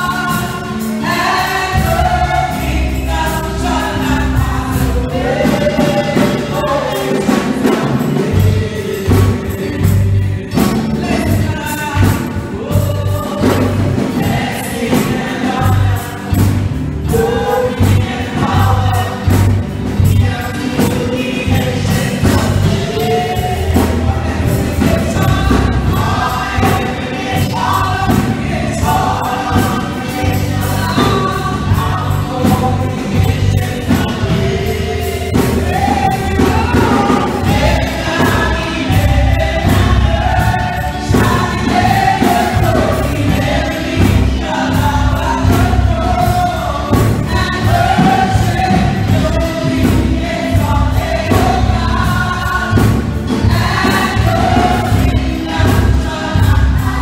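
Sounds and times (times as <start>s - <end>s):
amplified accompaniment with bass: 0.0s - 57.0s
choir singing gospel: 0.0s - 57.0s.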